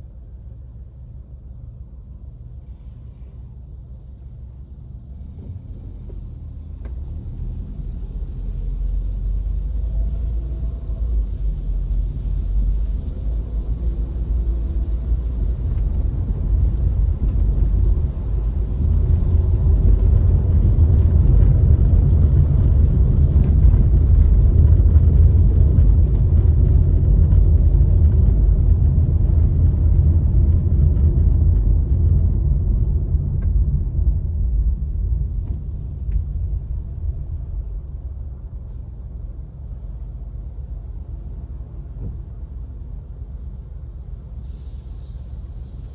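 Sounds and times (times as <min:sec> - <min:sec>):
car road and engine rumble: 0:00.0 - 0:45.9.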